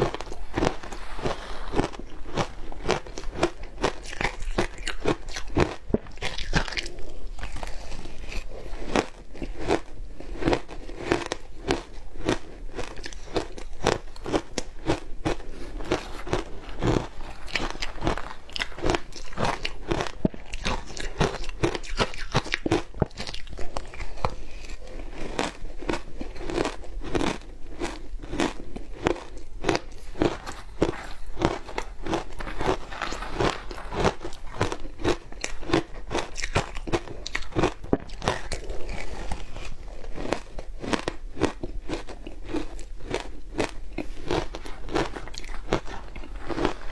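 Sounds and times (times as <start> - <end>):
shaved ice crunching while chewed: 0.0 - 46.9.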